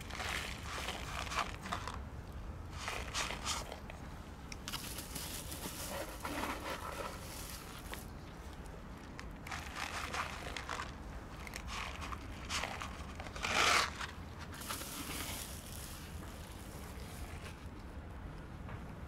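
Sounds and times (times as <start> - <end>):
cats chewing dry food: 0.0 - 18.6.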